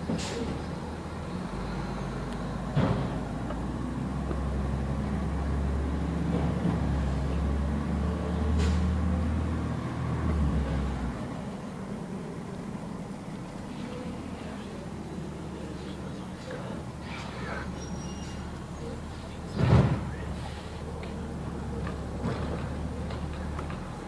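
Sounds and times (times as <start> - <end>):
garbage truck engine droning: 0.0 - 24.0.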